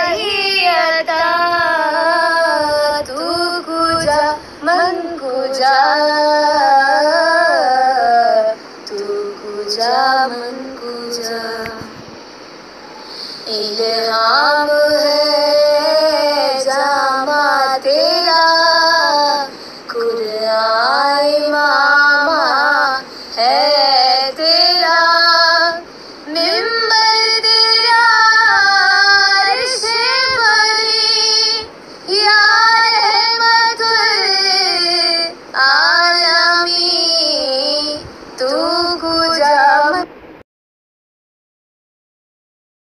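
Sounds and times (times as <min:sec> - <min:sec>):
high voice singing slow song: 0:00.0 - 0:40.4.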